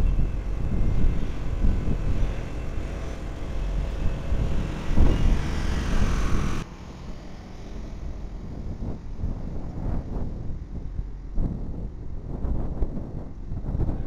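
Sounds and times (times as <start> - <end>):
truck rumbling along rails: 0.0 - 14.0.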